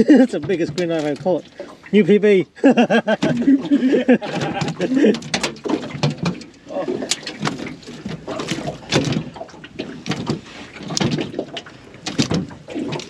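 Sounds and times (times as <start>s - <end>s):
fish thrashing in metal boat: 0.0s - 13.0s.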